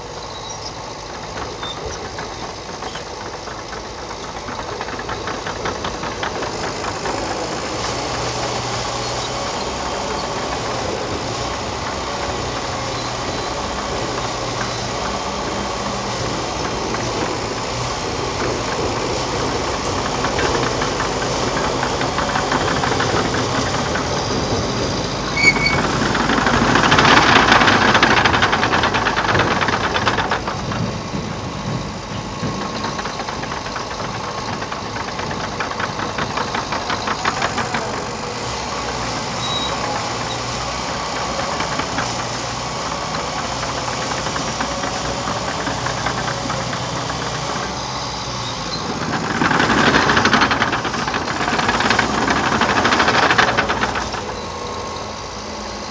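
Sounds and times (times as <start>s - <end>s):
dozer diesel engine running: 0.0s - 55.9s
rapid metallic clatter: 0.0s - 55.9s.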